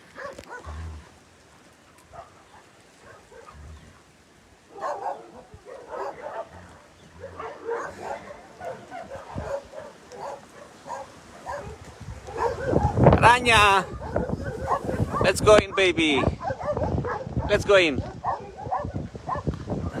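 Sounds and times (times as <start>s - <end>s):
dogs barking and yipping: 0.0s - 0.9s, 1.9s - 20.0s.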